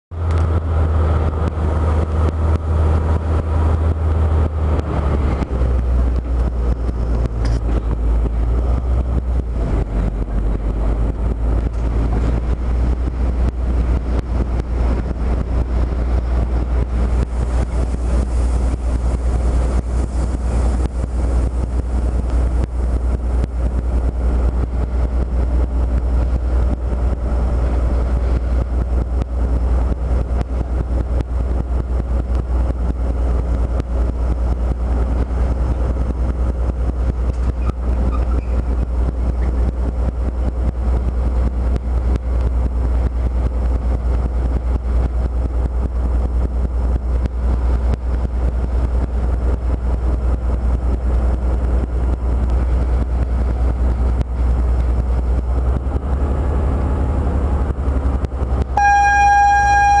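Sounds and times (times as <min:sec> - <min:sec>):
diesel locomotive engine droning: 0:00.1 - 1:00.0.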